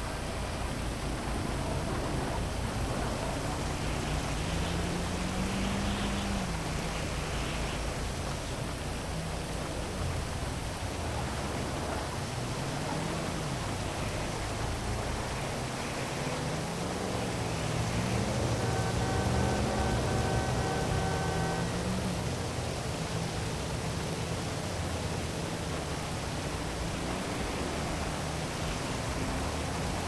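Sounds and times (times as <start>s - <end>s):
city traffic hum: 0.0s - 30.0s
heavy rain hissing: 0.0s - 30.0s.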